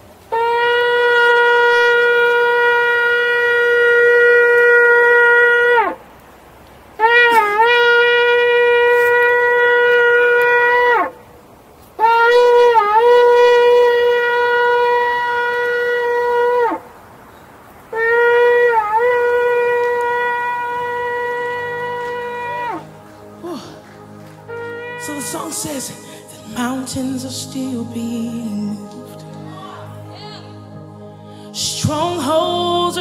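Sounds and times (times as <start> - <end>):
shofar blasts: 0.3 - 6.0, 7.0 - 11.2, 12.0 - 17.0, 17.9 - 33.0.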